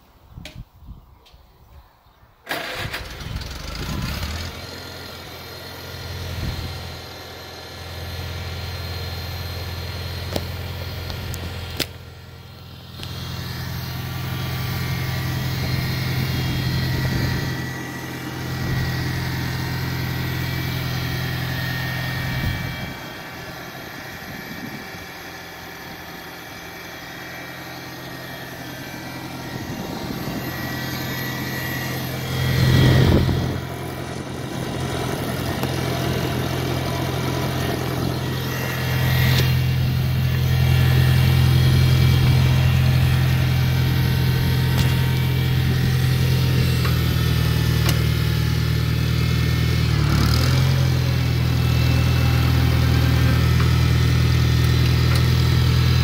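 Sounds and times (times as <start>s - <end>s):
tractor engine starting and running: 2.4s - 56.0s.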